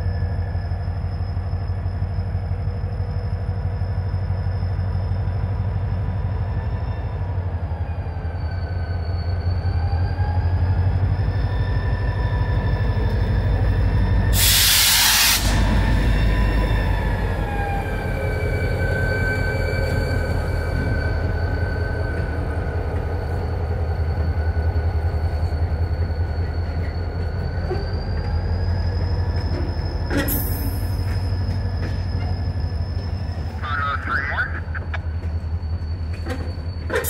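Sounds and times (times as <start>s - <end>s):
diesel locomotive engine rumble: 0.0s - 37.0s.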